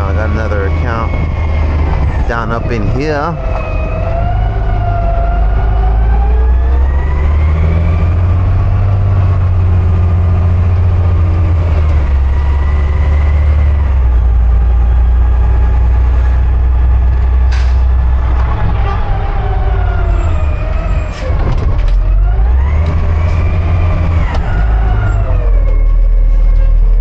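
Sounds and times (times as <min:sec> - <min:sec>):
truck engine hum and whine: 0:00.0 - 0:27.0.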